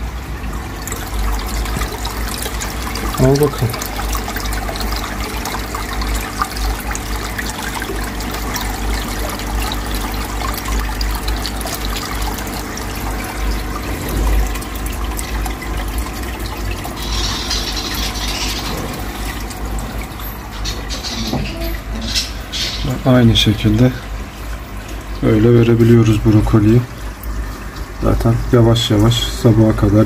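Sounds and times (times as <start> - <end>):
water splashing into aquarium: 0.0 - 30.0.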